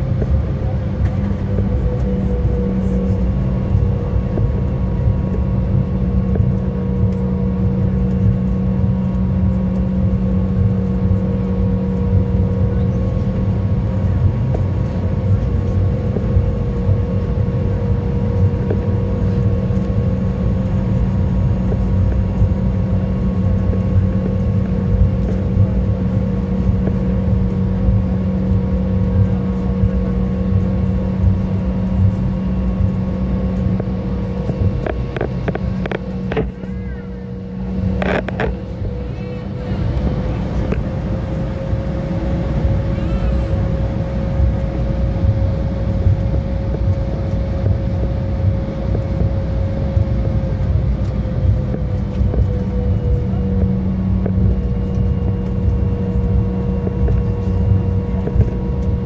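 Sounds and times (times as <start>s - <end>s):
jet engines humming at low power: 0.0s - 59.0s
low rumble: 0.0s - 59.0s.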